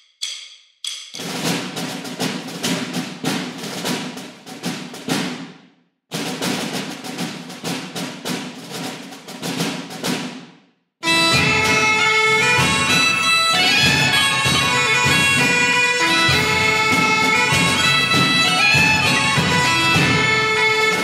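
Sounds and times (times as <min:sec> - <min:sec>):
rapid drum hits: 0:01.2 - 0:21.0.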